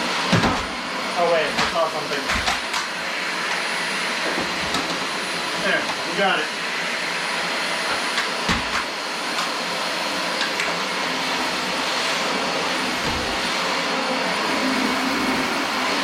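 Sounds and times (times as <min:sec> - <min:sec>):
upright vacuum cleaner running: 0:00.0 - 0:16.0.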